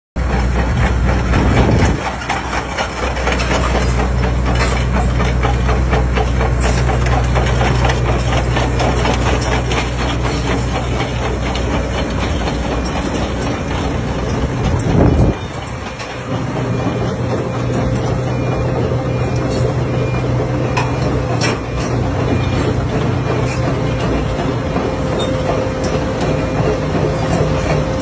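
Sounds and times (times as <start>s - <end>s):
large diesel engine running: 0.2s - 28.0s.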